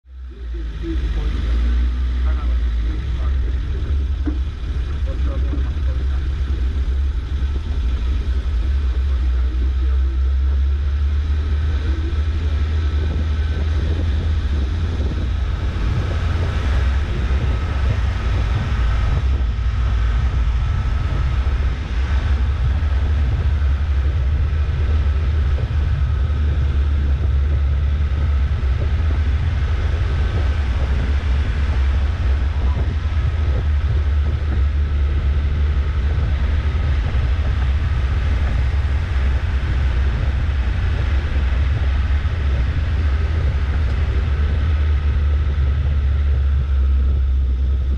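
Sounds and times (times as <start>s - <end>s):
vehicle engine rumble: 0.0s - 47.9s
thin steady whine: 0.1s - 47.9s.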